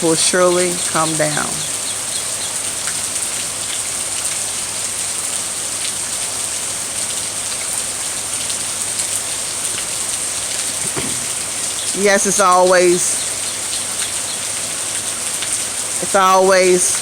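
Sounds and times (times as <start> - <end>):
raindrops tapping: 0.0 - 17.0
steady rain hiss: 0.0 - 17.0.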